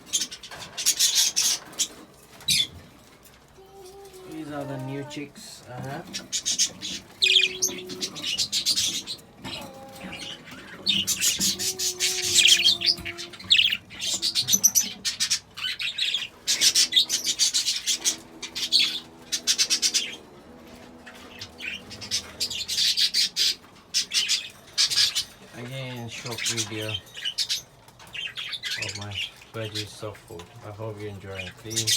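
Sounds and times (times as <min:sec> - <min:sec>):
budgies chattering and squawking: 0:00.0 - 0:31.9
low held bird notes: 0:03.6 - 0:30.2.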